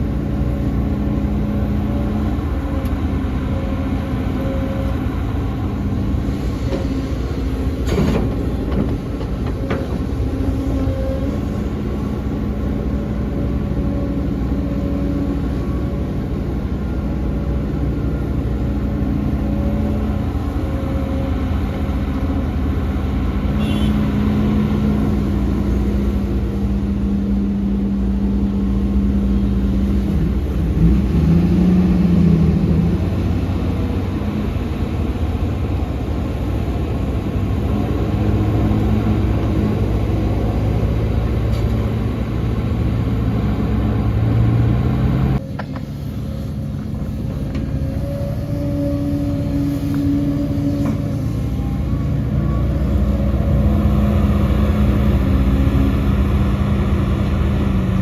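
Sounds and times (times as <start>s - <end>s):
heavy diesel machinery engines: 0.0s - 58.0s.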